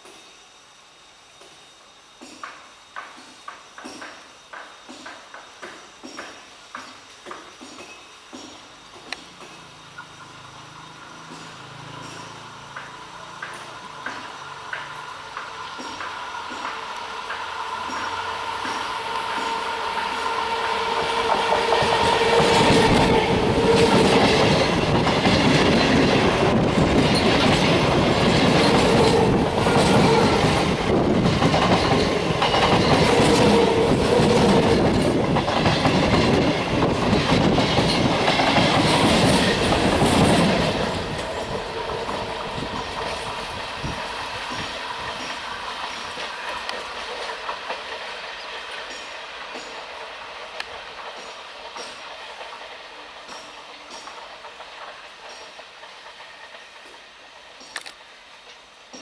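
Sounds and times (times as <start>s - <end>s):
electric train passing: 0.0s - 59.0s
wheels clattering over rail joints: 3.8s - 19.7s, 21.2s - 57.8s.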